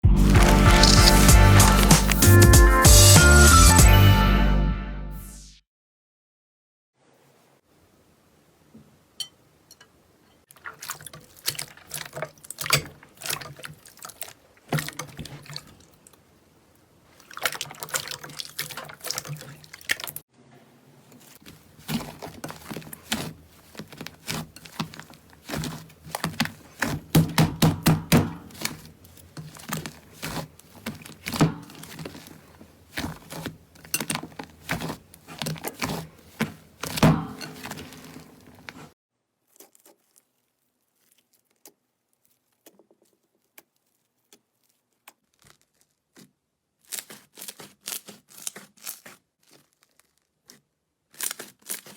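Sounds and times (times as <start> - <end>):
slime squelching: 0.0 - 3.5, 10.5 - 51.9.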